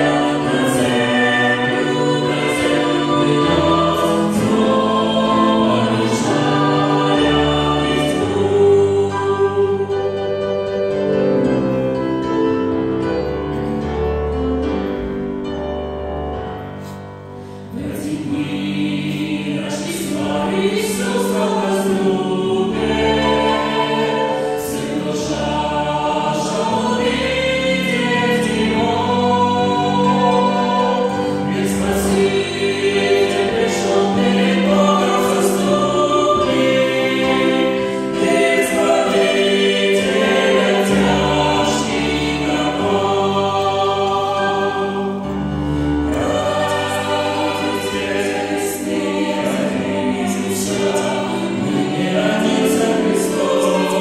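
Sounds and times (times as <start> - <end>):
mixed choir singing a hymn: 0.0 - 15.4, 16.2 - 54.0
piano accompaniment: 0.0 - 54.0.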